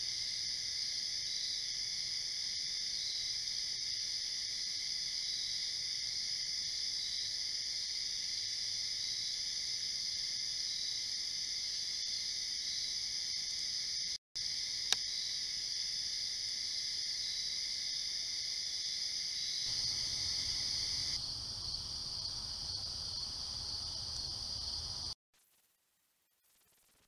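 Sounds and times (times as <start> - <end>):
crickets and insects trilling: 0.0 - 25.2.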